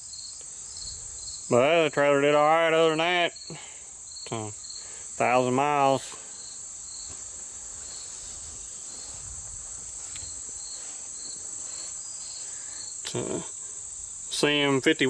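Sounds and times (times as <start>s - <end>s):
insect buzzing: 0.0s - 15.0s
insect chirping: 0.0s - 15.0s.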